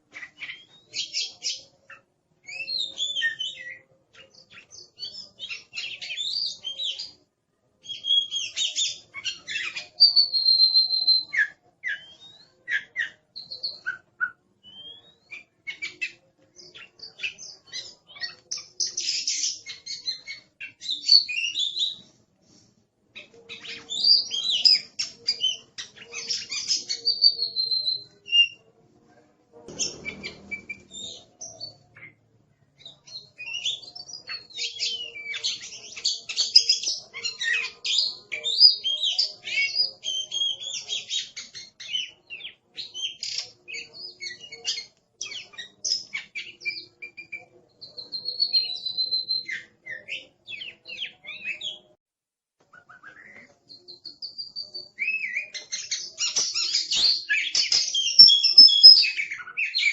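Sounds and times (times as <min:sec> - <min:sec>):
songbird singing whistles and trills: 0:00.1 - 0:07.2, 0:07.8 - 0:22.0, 0:23.2 - 0:28.7, 0:29.7 - 0:32.2, 0:32.8 - 0:51.9, 0:52.7 - 0:59.9.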